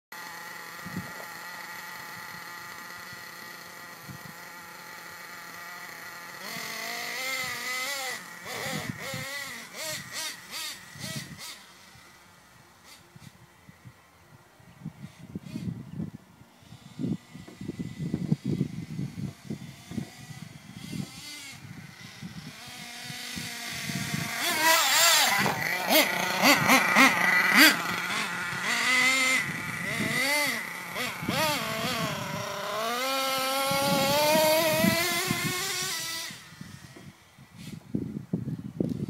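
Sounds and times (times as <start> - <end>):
model truck engine revving: 0.1 - 13.4, 16.6 - 37.8.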